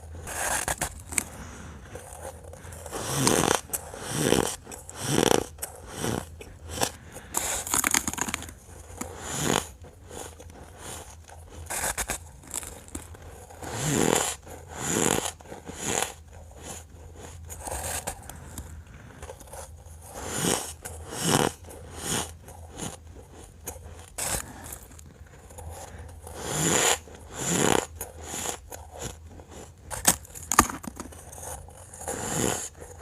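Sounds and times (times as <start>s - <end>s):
ice crunching between teeth: 0.3s - 19.5s, 20.1s - 33.0s.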